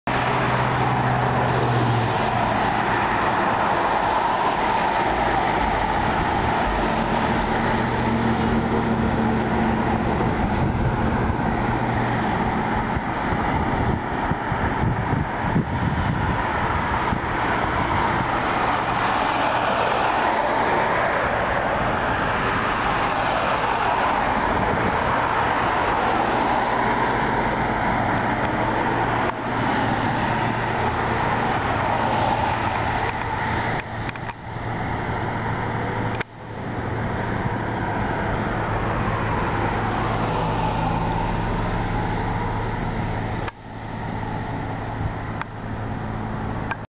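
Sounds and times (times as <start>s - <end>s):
cars passing on street: 0.0s - 46.9s
low engine hum: 0.1s - 46.9s.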